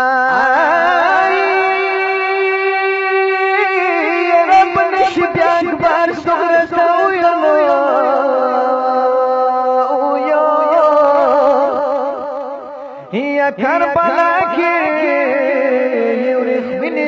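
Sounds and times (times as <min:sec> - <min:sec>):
man chanting lament: 0:00.0 - 0:17.0.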